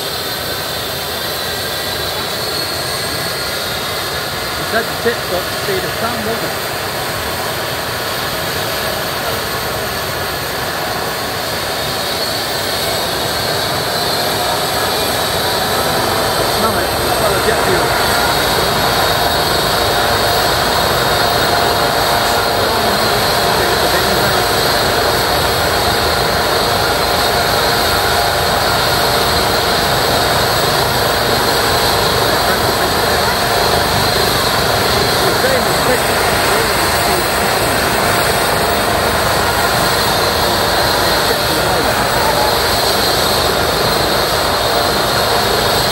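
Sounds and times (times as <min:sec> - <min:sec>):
helicopter rotor rushing: 0:00.0 - 0:45.9
helicopter turbine whine: 0:00.0 - 0:45.9.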